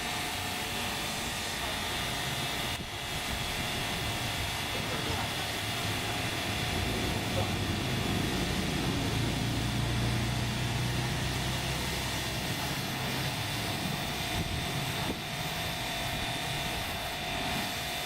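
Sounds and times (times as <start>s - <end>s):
pressure washer running: 0.0s - 18.0s.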